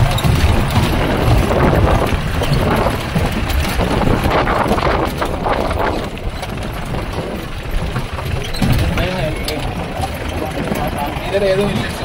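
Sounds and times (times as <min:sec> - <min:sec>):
knocking and rattling over stones: 0:00.0 - 0:12.0
vehicle engine and road rumble: 0:00.0 - 0:12.0.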